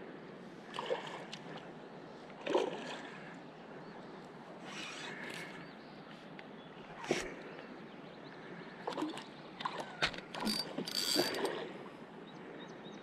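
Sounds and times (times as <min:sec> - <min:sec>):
river water running: 0:00.0 - 0:12.6.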